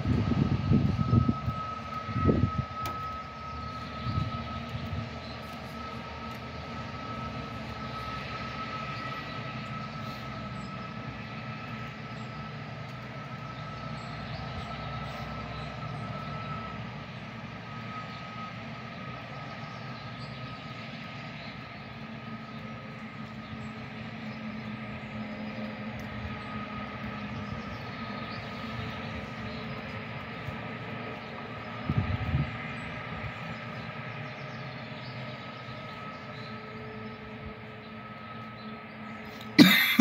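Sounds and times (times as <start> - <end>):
town background rumble: 0.0 - 40.0.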